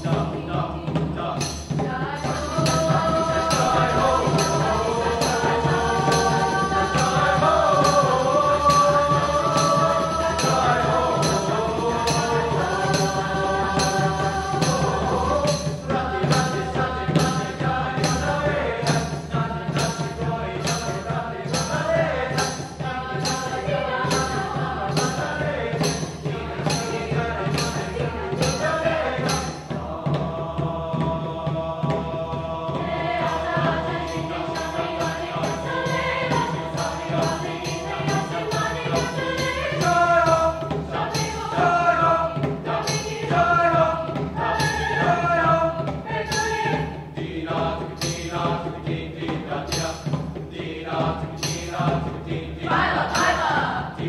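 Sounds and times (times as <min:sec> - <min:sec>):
choir singing: 0:00.0 - 0:54.0
high percussive beat: 0:00.0 - 0:54.0.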